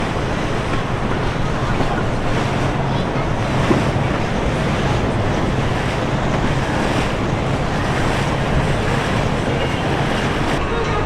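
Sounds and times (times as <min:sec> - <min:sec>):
rushing water: 0:00.0 - 0:10.6
wind buffeting microphone: 0:00.0 - 0:10.6.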